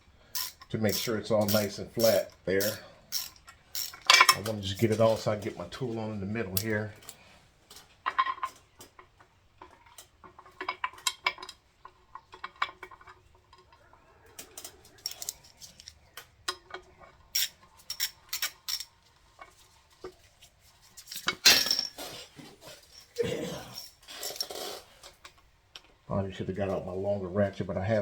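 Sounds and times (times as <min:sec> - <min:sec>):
metal bolts and tools clinking: 0:00.3 - 0:05.9, 0:06.5 - 0:13.8, 0:14.5 - 0:19.6, 0:21.0 - 0:25.9.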